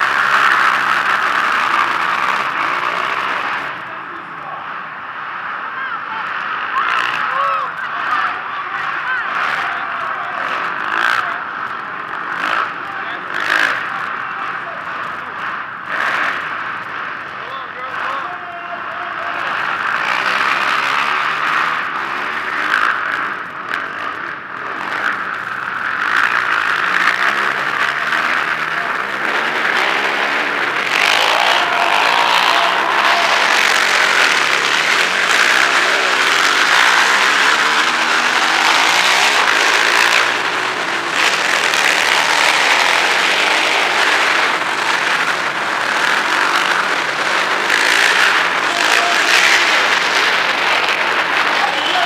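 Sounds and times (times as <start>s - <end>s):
quad engines revving: 0.0s - 52.0s.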